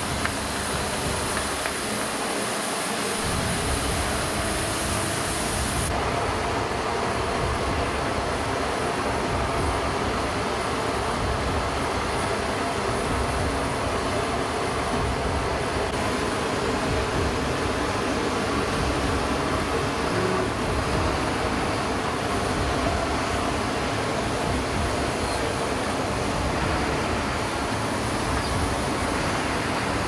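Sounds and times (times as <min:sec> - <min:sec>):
jet engines rushing: 0:00.0 - 0:30.0.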